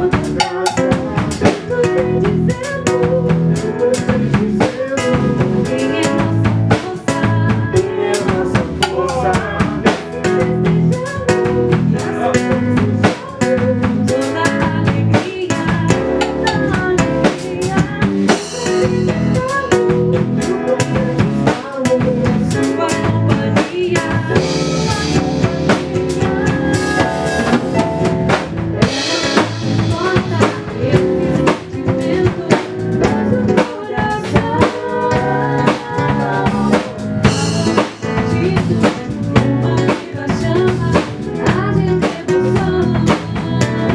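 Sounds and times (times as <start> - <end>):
band playing instrumental: 0.0 - 43.9
drum kit with rimshots: 0.0 - 43.9.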